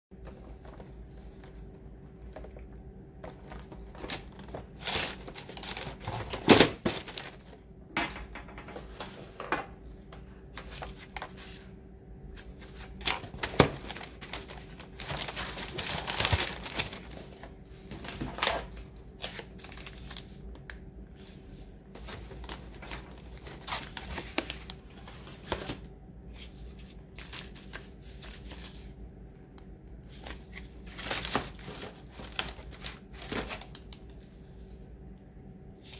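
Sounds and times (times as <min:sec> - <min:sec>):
faint steady hum: 0:00.1 - 0:35.9
paper rustling and crinkling: 0:00.2 - 0:07.6, 0:08.2 - 0:29.0, 0:30.0 - 0:34.7.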